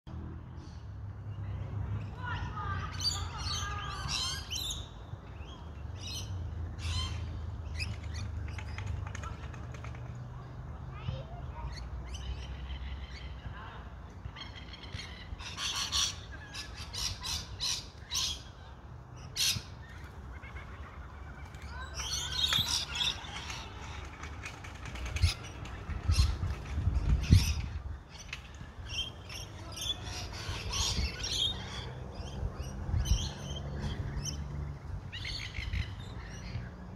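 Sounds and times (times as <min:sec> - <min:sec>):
birds squawking and chirping: 0:00.6 - 0:36.9.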